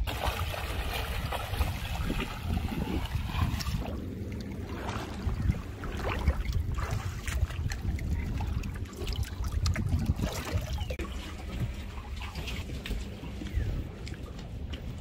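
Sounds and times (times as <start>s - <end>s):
seawater splashing and trickling: 0.0s - 15.0s
low rumble: 0.1s - 15.0s.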